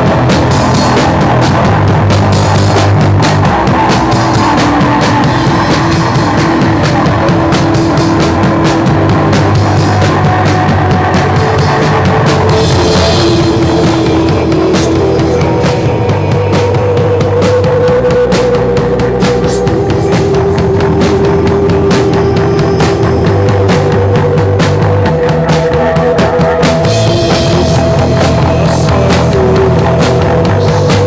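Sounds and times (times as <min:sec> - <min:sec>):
drum and cymbal hits: 0:00.0 - 0:31.0
electric guitar: 0:00.0 - 0:31.0
rock band playing loudly: 0:00.0 - 0:31.0.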